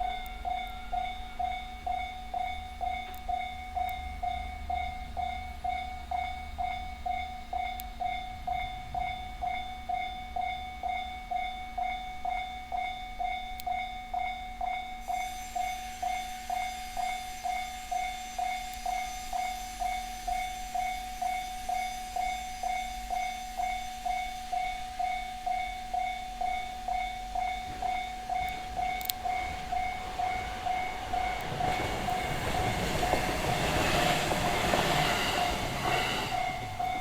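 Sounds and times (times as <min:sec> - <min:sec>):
electric train rumble: 0:00.0 - 0:37.0
level crossing alarm ringing: 0:00.0 - 0:37.0.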